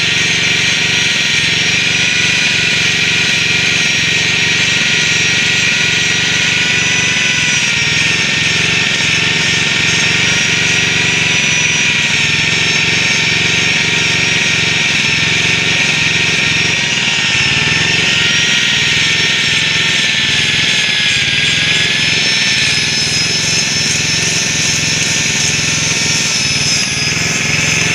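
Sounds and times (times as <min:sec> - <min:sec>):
power tool whining: 0:00.0 - 0:27.9.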